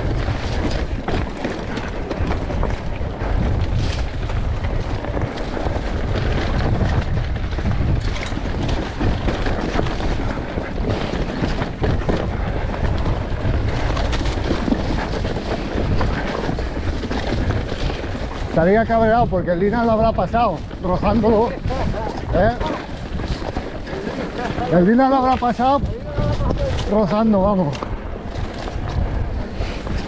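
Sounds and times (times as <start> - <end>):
knocks and rattles: 0.0 - 27.1
wind noise: 0.0 - 30.0.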